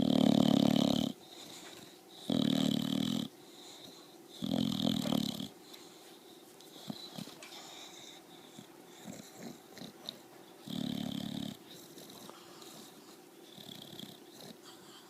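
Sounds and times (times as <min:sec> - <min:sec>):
dog snoring and wheezing: 0:00.0 - 0:05.6, 0:06.7 - 0:15.0.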